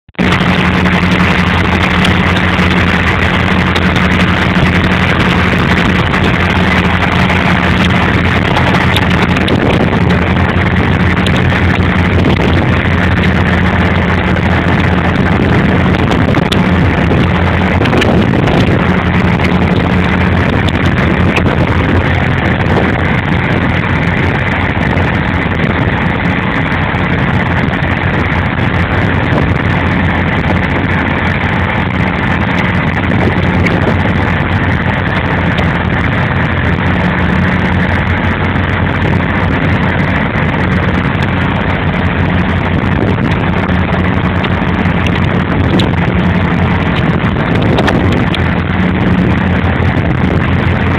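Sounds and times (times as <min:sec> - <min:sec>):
ship engine droning: 0:00.1 - 0:50.9
water rushing: 0:00.1 - 0:50.9.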